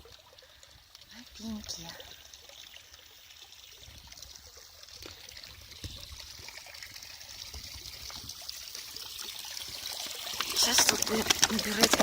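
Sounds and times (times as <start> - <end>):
spring water trickling: 0.0 - 12.0.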